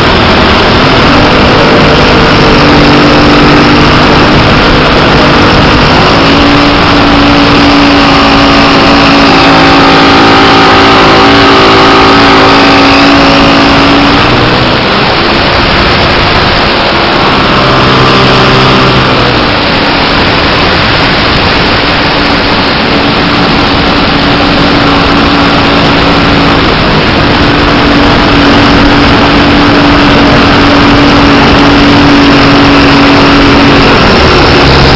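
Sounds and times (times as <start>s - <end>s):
model aircraft engine and propeller: 0.0s - 34.9s
wind rush: 0.0s - 34.9s.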